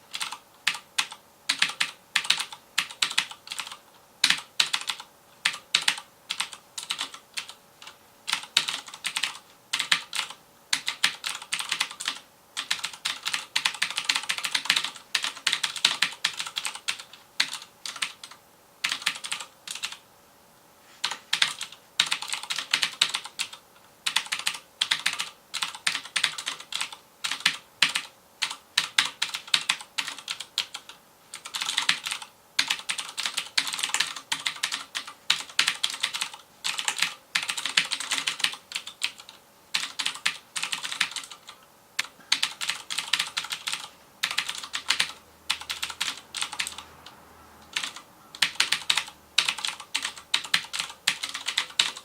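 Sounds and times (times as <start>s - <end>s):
mechanical keyboard clicking: 0.1s - 20.0s, 21.0s - 46.8s, 47.7s - 52.0s.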